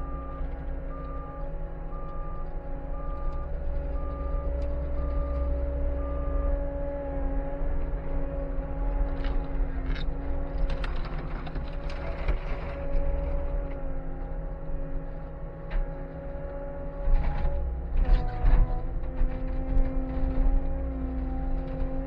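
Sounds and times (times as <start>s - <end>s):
skid steer engine rumbling: 0.0s - 22.0s.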